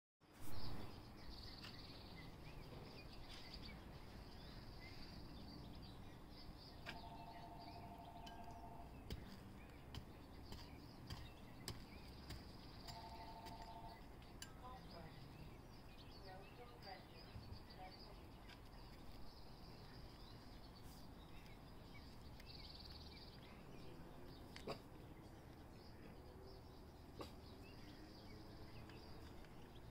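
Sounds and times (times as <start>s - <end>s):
small birds chirping: 0.3s - 29.9s.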